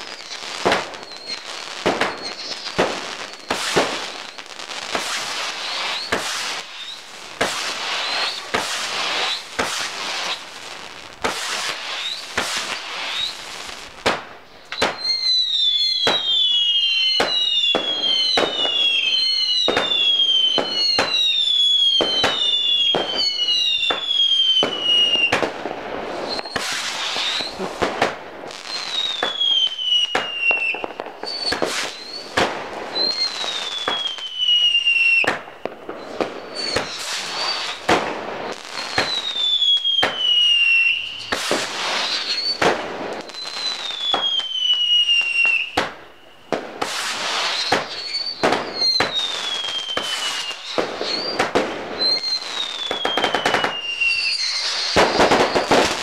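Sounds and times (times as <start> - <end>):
falling firework whistles: 0.0 - 56.0
firework bangs: 0.0 - 56.0
firework crackling: 0.0 - 56.0.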